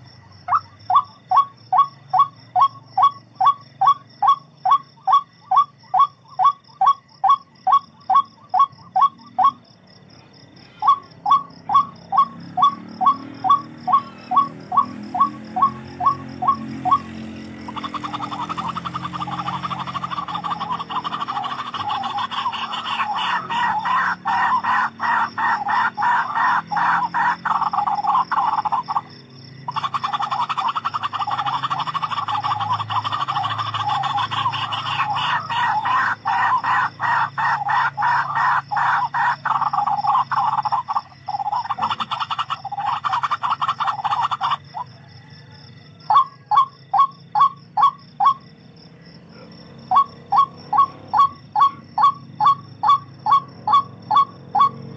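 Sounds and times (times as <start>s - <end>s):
bird calling harsh repeated notes: 0.0s - 45.4s, 46.0s - 48.6s, 49.7s - 54.9s.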